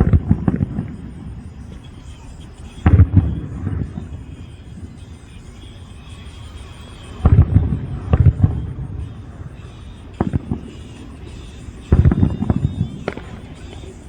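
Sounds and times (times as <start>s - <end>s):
fireworks booming and cracking: 0.0s - 14.0s.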